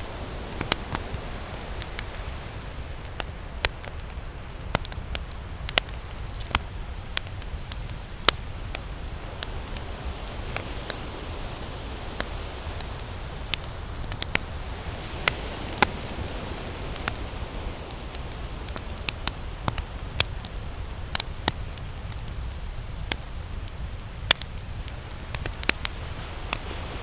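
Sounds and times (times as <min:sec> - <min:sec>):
campfire crackling and popping: 0:00.0 - 0:27.0
low fire rumble: 0:00.0 - 0:27.0.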